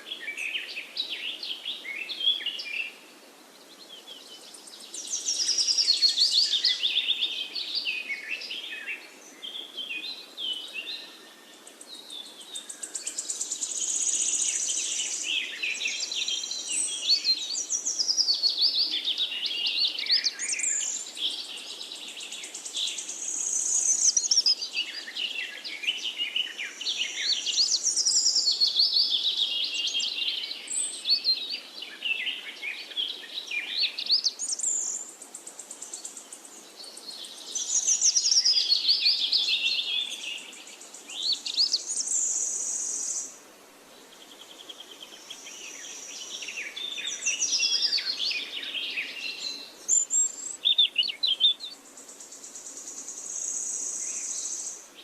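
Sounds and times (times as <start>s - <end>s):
faint background hiss: 0.0s - 55.0s
songbirds singing: 0.0s - 55.0s.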